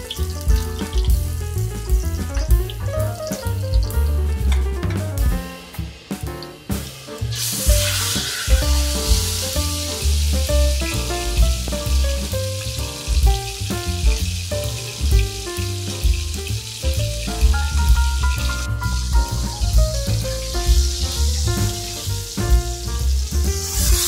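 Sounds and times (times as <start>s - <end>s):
food sizzling in a pan: 0.0s - 4.5s, 5.6s - 24.0s
music with bass beat: 0.0s - 24.0s.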